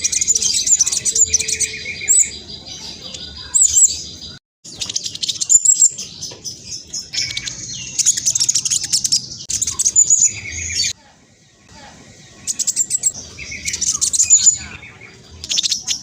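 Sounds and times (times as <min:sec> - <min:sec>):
bird singing chattering song: 0:00.0 - 0:16.0.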